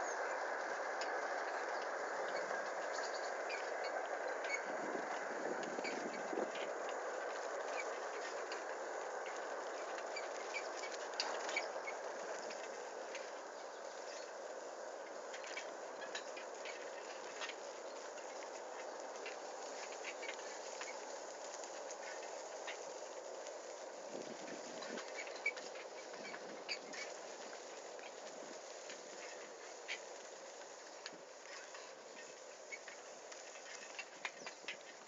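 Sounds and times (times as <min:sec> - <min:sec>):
bicycle tyres on dirt track: 0:00.0 - 0:35.0
bicycle clicks and rattles: 0:05.6 - 0:35.0.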